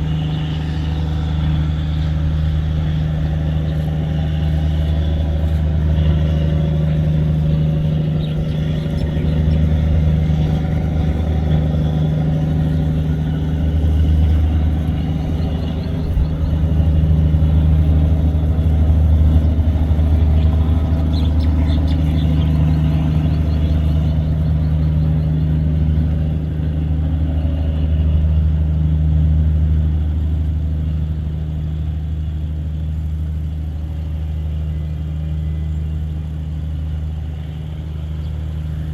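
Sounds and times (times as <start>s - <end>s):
boat diesel engine droning: 0.0s - 38.9s.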